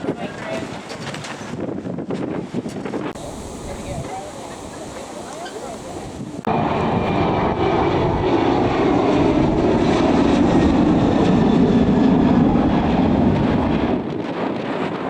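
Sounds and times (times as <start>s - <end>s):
aircraft engines rushing: 0.0s - 15.0s.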